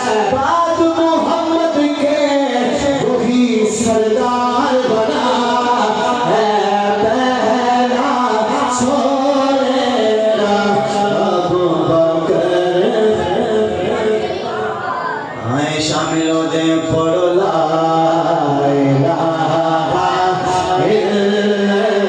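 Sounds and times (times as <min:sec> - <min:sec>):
person singing devotional song: 0:00.0 - 0:14.7, 0:15.4 - 0:22.0.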